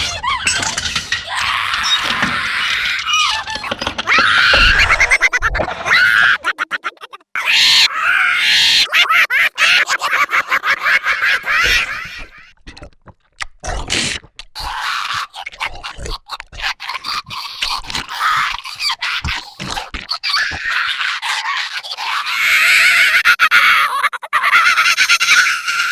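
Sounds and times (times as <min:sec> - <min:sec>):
creature squeals and chattering: 0:00.0 - 0:12.8, 0:13.7 - 0:25.9.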